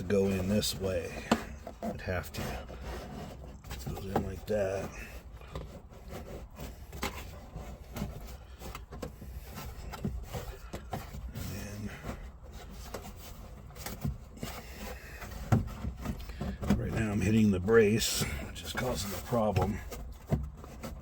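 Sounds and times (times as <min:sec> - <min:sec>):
plastic rubbing and scraping: 0:00.0 - 0:21.0.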